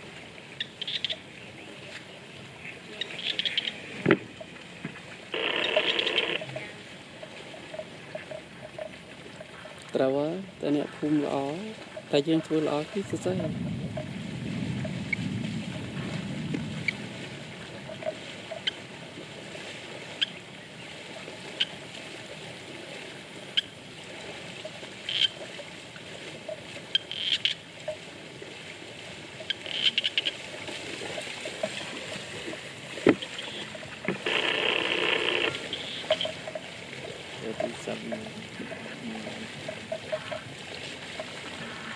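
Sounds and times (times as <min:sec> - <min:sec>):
animal splashing through water: 0:00.0 - 0:41.9
rush of water: 0:00.0 - 0:41.9.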